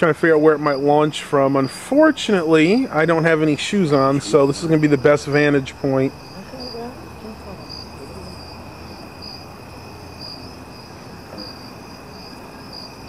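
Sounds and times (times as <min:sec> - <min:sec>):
insect chirp pulsing: 0:00.0 - 0:13.0
insects trilling: 0:00.0 - 0:13.0.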